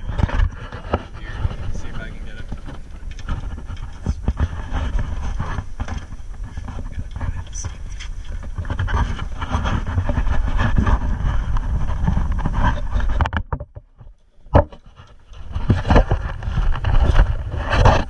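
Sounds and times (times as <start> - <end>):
wind buffeting microphone: 0.0 - 13.6, 14.5 - 18.0.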